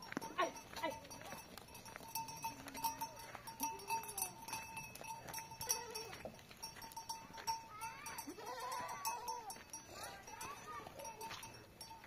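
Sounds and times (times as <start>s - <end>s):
livestock bells clinking: 0.0s - 12.0s.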